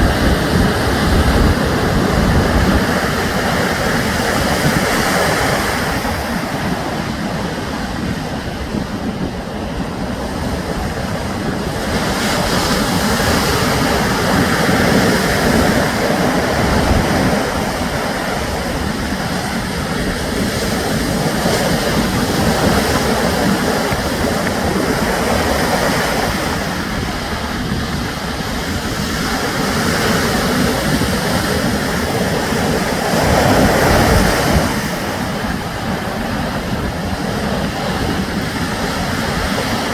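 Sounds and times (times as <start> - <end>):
sea surf washing onto shore: 0.0 - 39.9.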